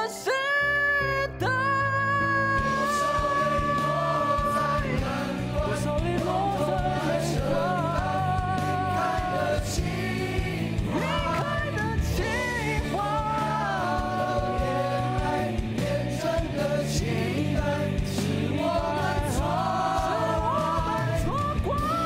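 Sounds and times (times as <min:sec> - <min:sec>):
person singing pop song: 0:00.0 - 0:22.0
steady drum beat: 0:02.6 - 0:22.0.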